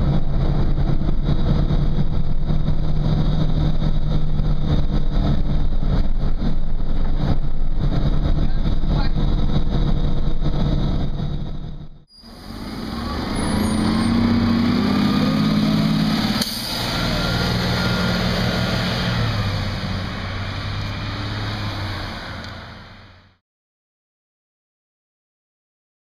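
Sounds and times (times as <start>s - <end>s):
bus engine pulling away: 0.0s - 23.4s.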